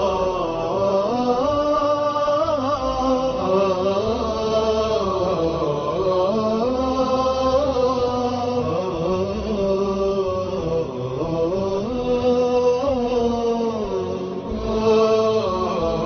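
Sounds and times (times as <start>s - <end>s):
wordless vocal chanting: 0.0s - 16.0s.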